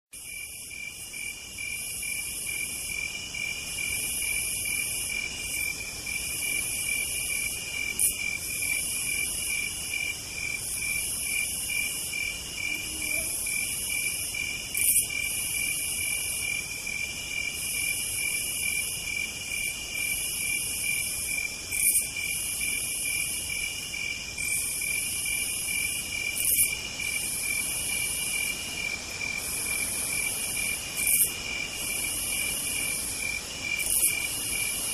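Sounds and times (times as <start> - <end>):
pulsing insect chirp: 0.2 - 34.9.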